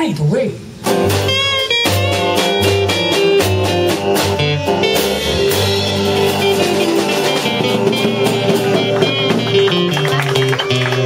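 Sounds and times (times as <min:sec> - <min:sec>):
blues band playing: 0:00.7 - 0:11.0.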